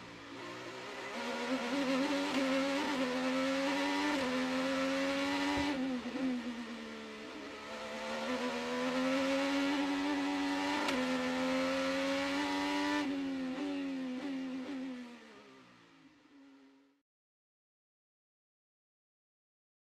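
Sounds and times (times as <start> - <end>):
racing car engine at high revs: 0.0 - 16.8.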